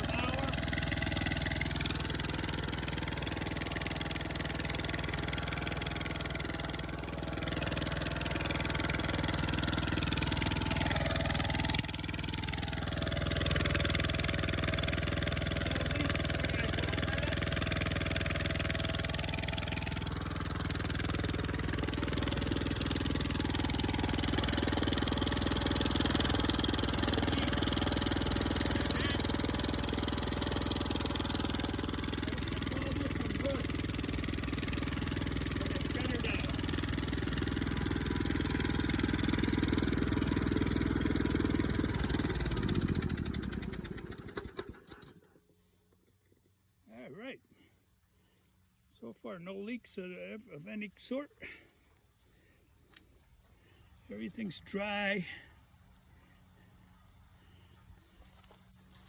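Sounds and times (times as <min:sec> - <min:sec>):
small engine running: 0:00.0 - 0:48.6, 0:51.4 - 0:59.0.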